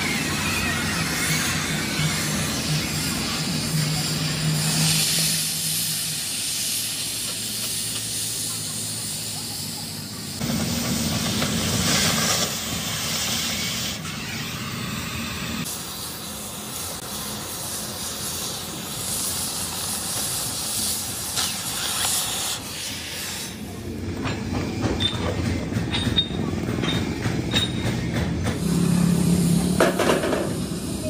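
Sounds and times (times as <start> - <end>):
cutting torch hissing: 0.0 - 24.1, 28.4 - 31.0.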